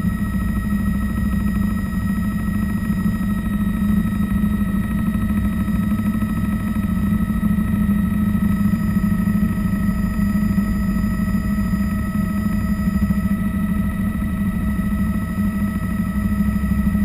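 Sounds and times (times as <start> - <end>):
helicopter cabin drone: 0.0 - 17.0
high steady whining tones: 0.0 - 17.0.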